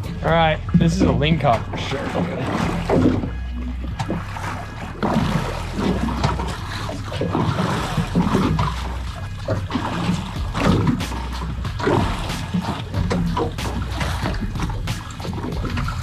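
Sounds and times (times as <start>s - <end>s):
background music with bass: 0.0s - 16.0s
water splashing against boat: 0.0s - 16.0s.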